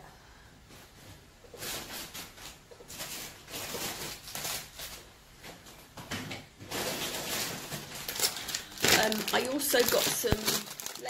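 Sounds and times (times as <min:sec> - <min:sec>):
plastic bag rustling: 0:00.9 - 0:05.9, 0:06.6 - 0:11.0.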